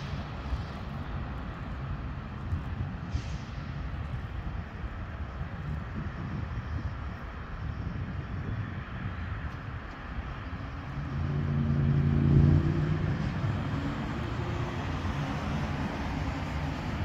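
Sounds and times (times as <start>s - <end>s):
diesel freight train rumbling: 0.0s - 17.0s.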